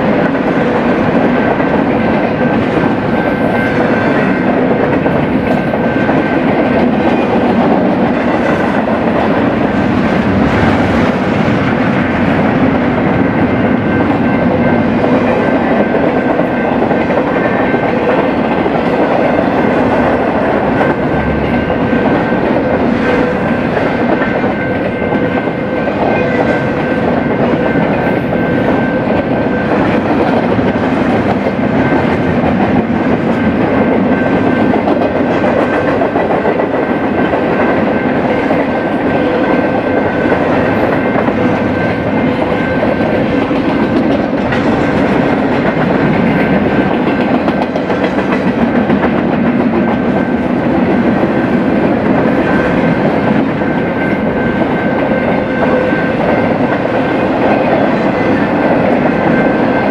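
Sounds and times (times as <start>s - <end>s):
clickety-clack of rail joints: 0.0s - 59.9s
freight train wheels rumbling: 0.0s - 59.9s.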